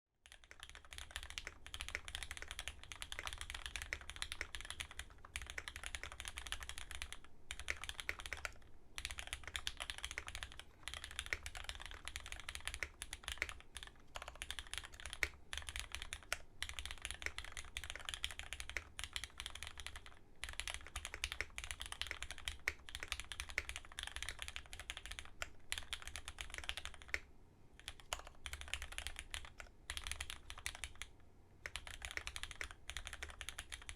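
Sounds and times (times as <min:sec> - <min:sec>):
fast mechanical keyboard typing: 0:00.2 - 0:27.2, 0:27.8 - 0:33.9.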